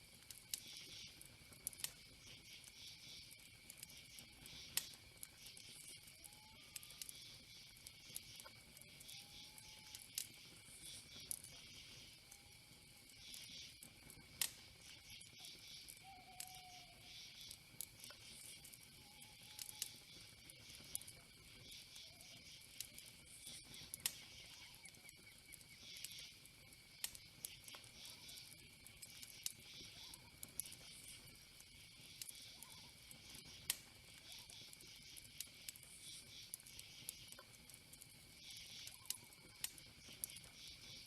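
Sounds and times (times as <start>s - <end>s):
insect chirring: 0.0s - 41.0s.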